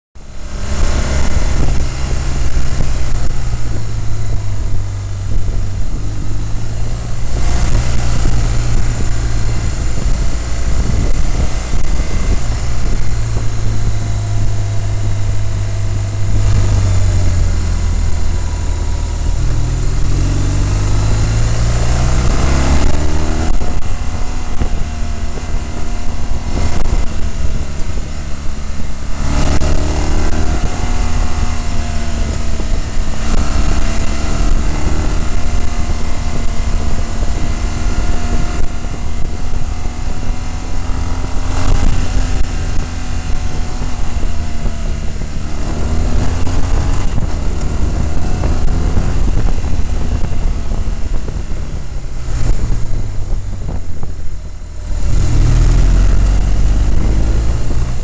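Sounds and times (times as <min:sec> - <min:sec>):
motorcycle engine running: 0:00.2 - 0:58.0
wind rushing over microphone: 0:00.2 - 0:58.0.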